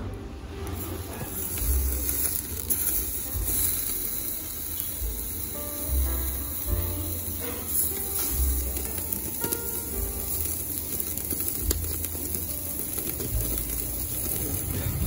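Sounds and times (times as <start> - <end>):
music playing: 0.0 - 15.0
meat sizzling on a grill: 0.6 - 15.0.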